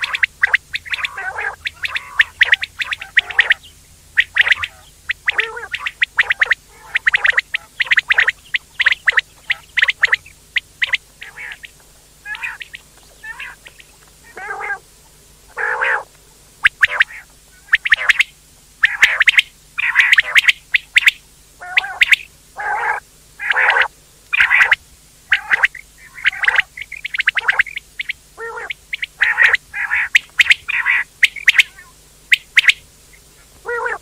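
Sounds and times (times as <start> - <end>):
quail chirping calls: 0.0 - 34.0
quail warbling calls: 0.0 - 34.0.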